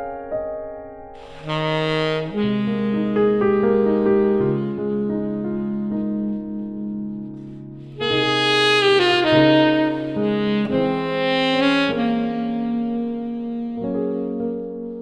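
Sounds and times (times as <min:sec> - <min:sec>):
sustained keyboard chords: 0:00.0 - 0:15.0
saxophone melody: 0:01.2 - 0:15.0.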